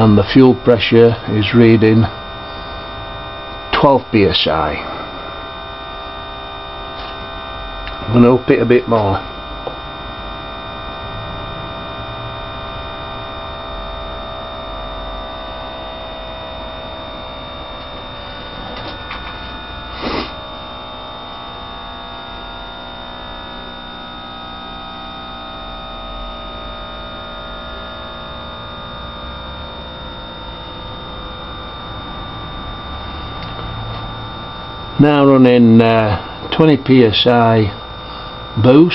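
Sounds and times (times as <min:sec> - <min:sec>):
electric fuel pump humming: 0:00.0 - 0:38.9.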